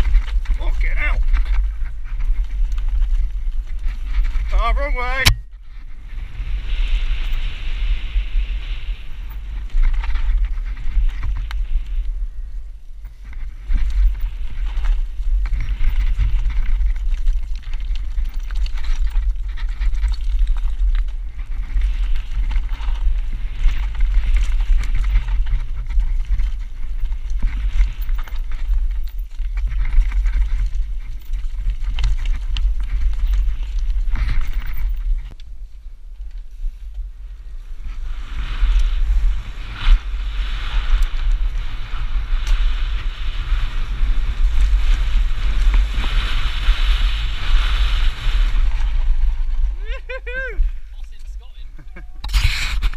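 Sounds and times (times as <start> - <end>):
tyres on dirt and stones: 0.0 - 52.9
wind buffeting microphone: 0.0 - 52.9.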